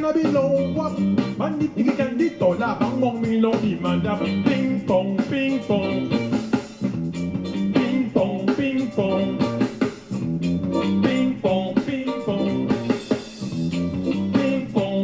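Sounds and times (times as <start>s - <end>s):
bass guitar: 0.0s - 15.0s
electric guitar: 0.0s - 15.0s
live band playing upbeat music: 0.0s - 15.0s.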